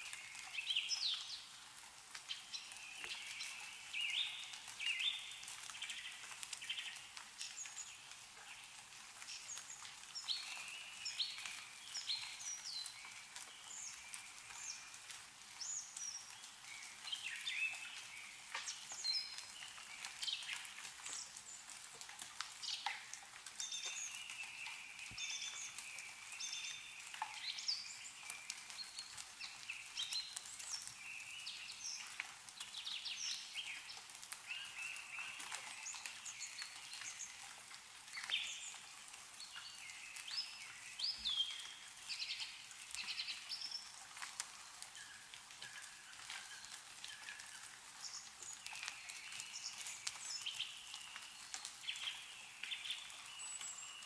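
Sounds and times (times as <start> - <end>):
snowmelt dripping from trees: 0.0 - 54.0
songbirds chirping and trilling: 0.0 - 54.0.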